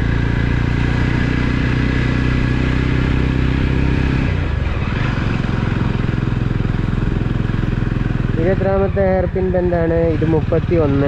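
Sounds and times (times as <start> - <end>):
motorcycle engine under load: 0.0 - 11.0.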